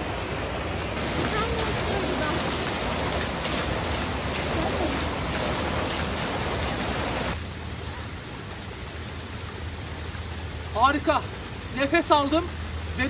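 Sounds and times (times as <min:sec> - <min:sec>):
small waterfall rushing: 0:00.0 - 0:13.0
water rushing off water wheel: 0:00.0 - 0:13.0.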